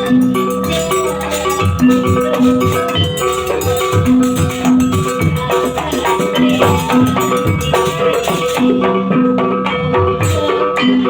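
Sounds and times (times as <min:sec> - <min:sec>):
drum strokes: 0:00.0 - 0:11.0
ringing metal percussion notes: 0:00.0 - 0:11.0.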